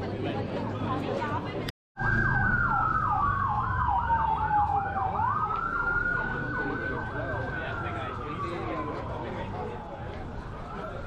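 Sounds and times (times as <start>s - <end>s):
emergency siren yelp and wail: 2.0s - 11.0s.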